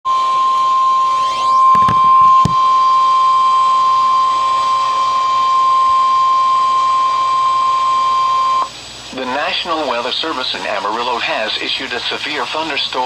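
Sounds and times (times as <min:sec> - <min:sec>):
loud high warning tone: 0:00.1 - 0:13.0.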